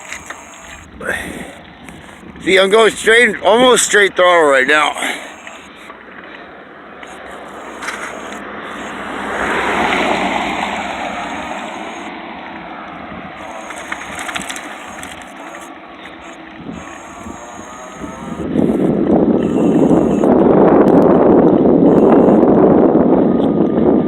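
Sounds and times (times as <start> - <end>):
electric bicycle tyre and riding noise: 0.0 - 24.0.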